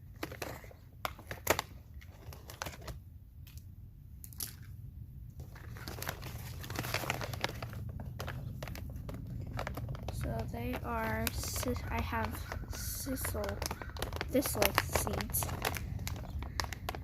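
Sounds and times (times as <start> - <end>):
seed bag crinkling and rustling: 0.0 - 3.0, 5.4 - 17.0.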